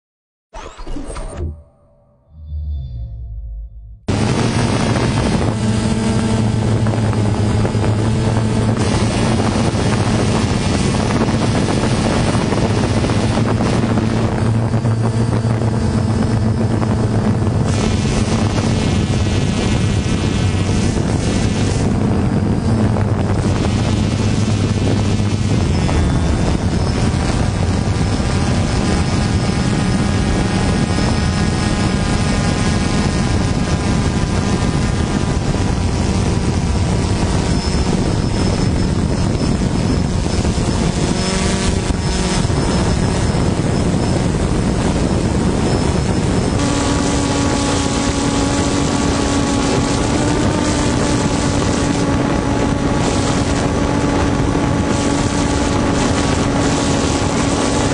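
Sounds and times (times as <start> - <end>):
drone propellers humming: 0.6 - 57.9.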